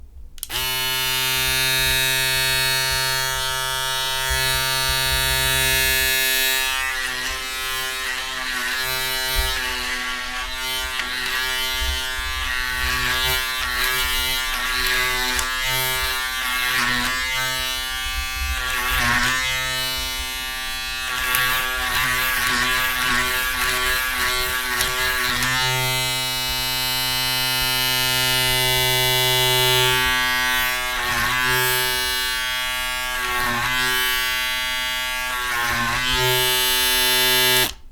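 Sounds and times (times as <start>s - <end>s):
electric shaver buzzing: 0.4s - 37.8s.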